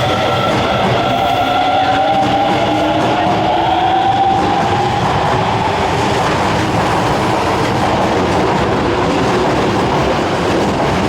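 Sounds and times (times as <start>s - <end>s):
subway train wheels clickety-clack: 0.0s - 11.0s.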